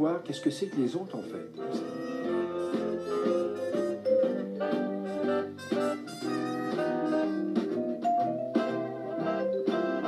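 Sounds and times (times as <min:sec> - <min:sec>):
instrumental melody over chords: 0:00.6 - 0:10.0.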